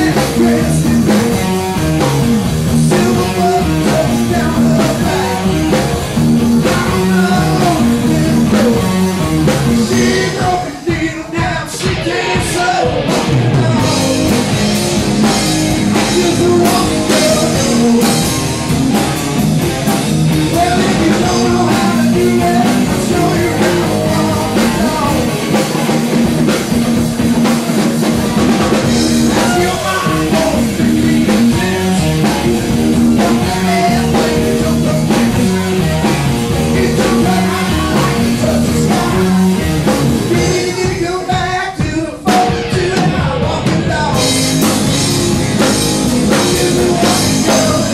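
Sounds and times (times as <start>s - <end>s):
electric guitar: 0.0s - 11.0s, 11.6s - 47.9s
person singing: 0.0s - 18.6s, 20.4s - 25.7s, 28.7s - 47.9s
drum kit: 0.0s - 47.9s.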